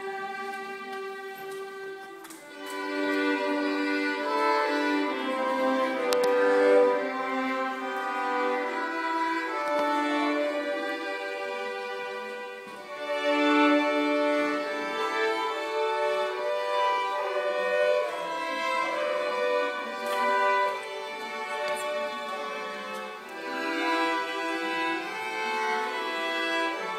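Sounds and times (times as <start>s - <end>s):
violins playing melody: 0.0s - 26.9s.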